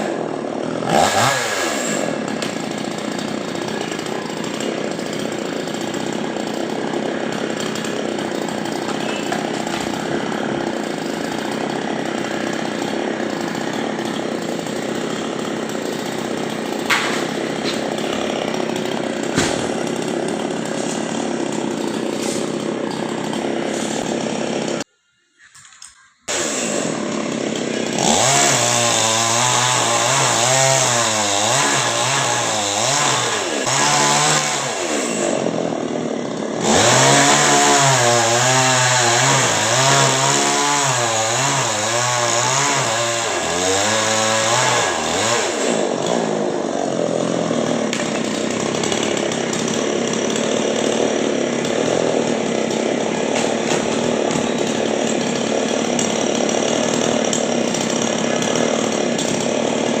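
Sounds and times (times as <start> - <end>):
chainsaw cutting wood: 0.0 - 24.9, 26.3 - 60.0.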